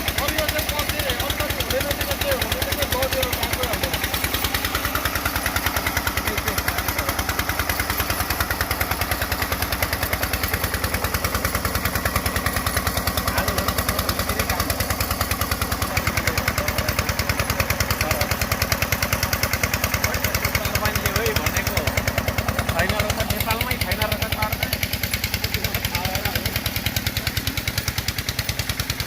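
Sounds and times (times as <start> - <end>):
drilling rig engine knocking: 0.0 - 29.0.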